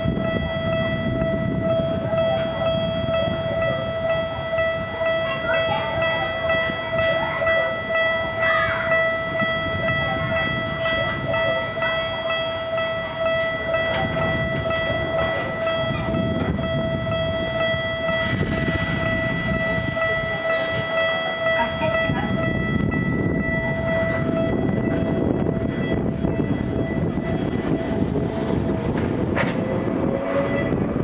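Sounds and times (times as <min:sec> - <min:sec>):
electric train whine: 0:00.0 - 0:31.0.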